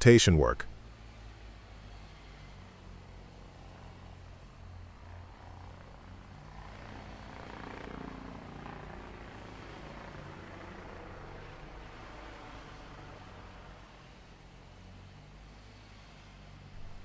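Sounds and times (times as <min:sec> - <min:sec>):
heavy vehicle engine droning: 0:00.0 - 0:17.0.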